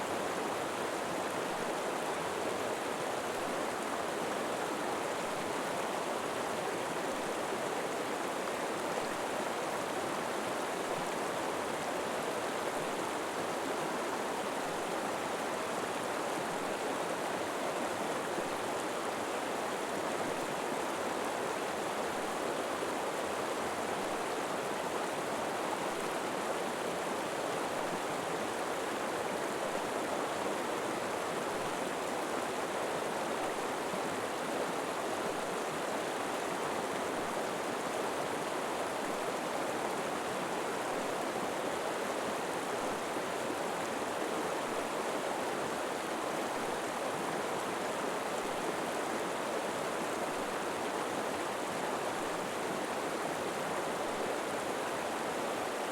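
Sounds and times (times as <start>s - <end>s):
river water flowing over rocks: 0.0s - 55.9s.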